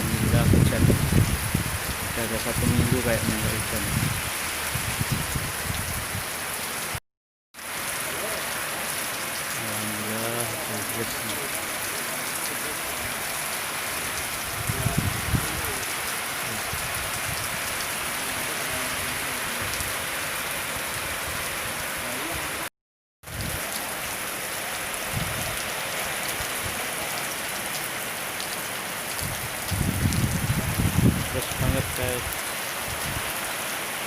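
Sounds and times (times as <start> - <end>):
heavy rain pouring: 0.0 - 7.0, 7.6 - 34.0.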